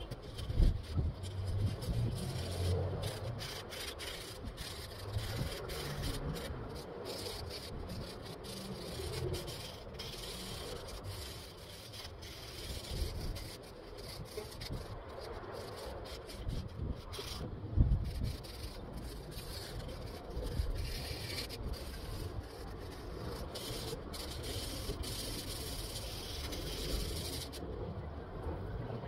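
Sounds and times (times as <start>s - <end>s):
sandpaper scratching wood: 0.0s - 27.6s.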